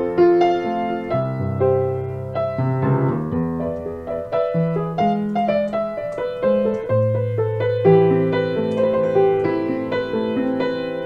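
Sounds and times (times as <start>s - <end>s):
solo piano: 0.0s - 11.0s.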